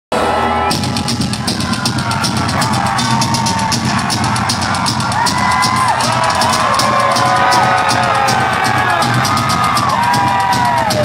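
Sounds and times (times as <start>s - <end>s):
fast drumbeat: 0.7s - 11.0s.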